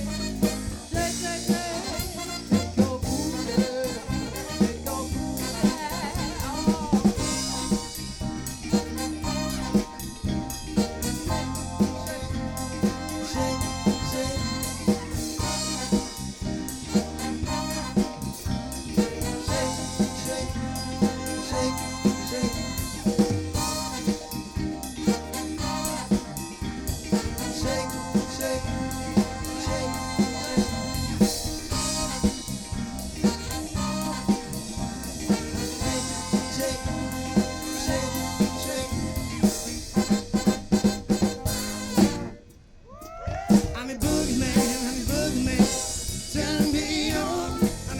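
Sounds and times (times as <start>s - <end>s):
live band playing: 0.0s - 42.8s, 43.5s - 47.9s.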